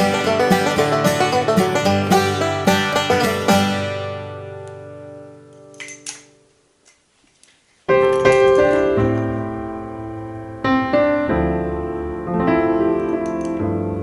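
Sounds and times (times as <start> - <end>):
piano music: 0.0 - 5.5, 7.9 - 14.0.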